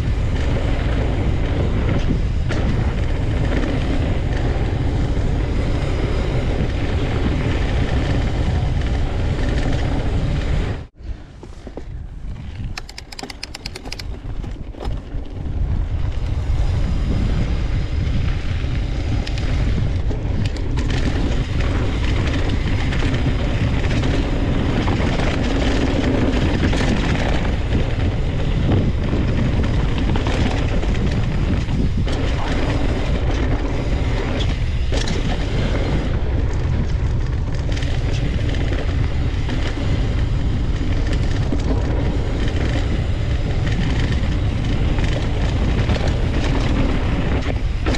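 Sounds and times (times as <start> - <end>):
bike tyres rattling over dirt: 0.0 - 47.9
wind buffeting microphone: 0.0 - 47.9.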